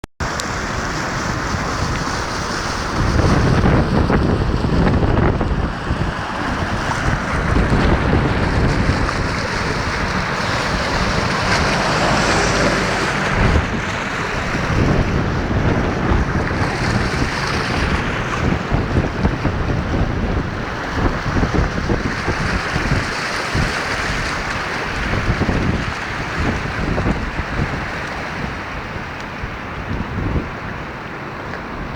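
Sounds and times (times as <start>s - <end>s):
floodwater rushing: 0.2s - 31.9s
wind buffeting microphone: 0.2s - 31.9s.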